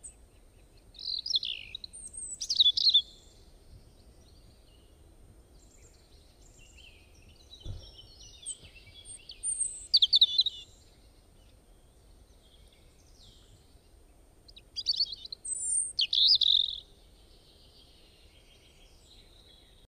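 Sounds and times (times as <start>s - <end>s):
faint background hiss: 0.0s - 19.9s
small birds chirping: 0.0s - 19.9s.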